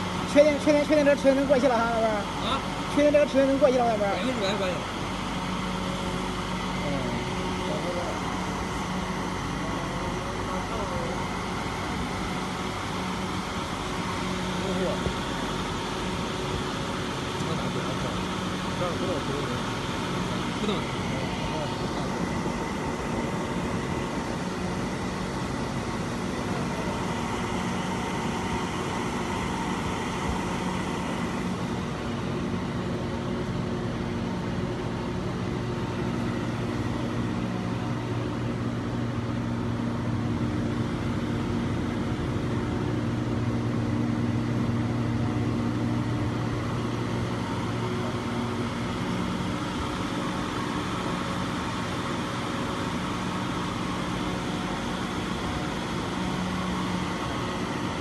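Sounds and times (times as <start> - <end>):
machine hum with low tones: 0.0 - 58.0.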